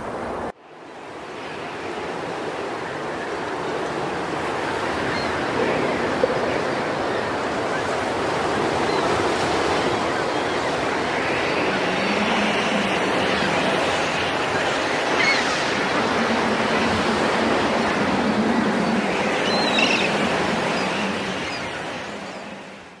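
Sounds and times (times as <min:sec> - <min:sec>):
waves breaking on shore: 0:00.0 - 0:23.0.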